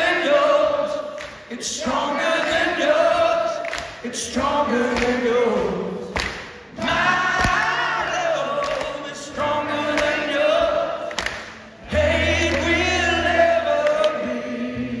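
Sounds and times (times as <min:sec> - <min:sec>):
crowd singing rock song: 0:00.0 - 0:15.0.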